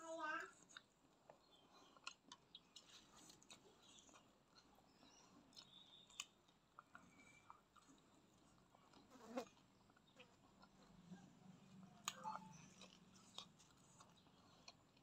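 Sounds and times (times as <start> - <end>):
faint chewing with mouth clicks: 0.5 - 15.0.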